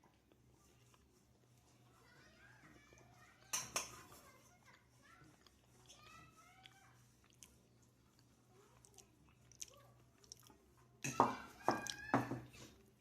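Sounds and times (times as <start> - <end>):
soft wet rubbing: 0.0 - 13.0.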